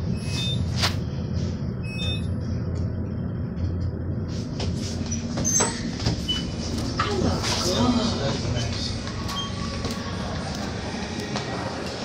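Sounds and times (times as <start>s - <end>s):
elevator humming and rumbling: 0.0s - 12.0s.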